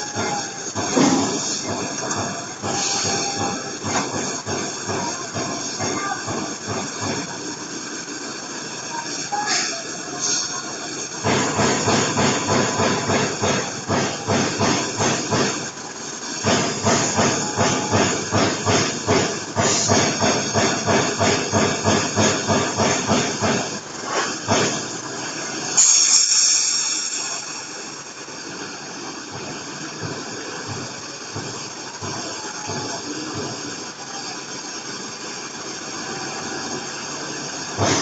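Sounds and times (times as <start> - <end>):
loud high hiss: 0.0 - 38.0
welding arc hissing in pulses: 0.0 - 38.0.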